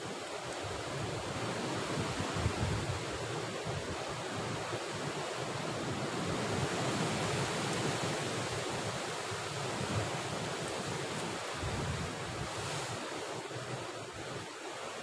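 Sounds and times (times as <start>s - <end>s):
sea surf: 0.0s - 15.0s
wind rumbling on microphone: 0.5s - 5.2s, 5.9s - 14.3s.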